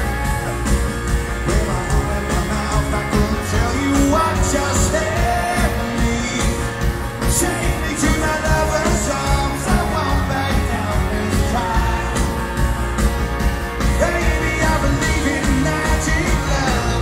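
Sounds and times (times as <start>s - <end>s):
drums: 0.0s - 17.0s
electric guitar: 0.0s - 17.0s
man singing: 1.3s - 17.0s.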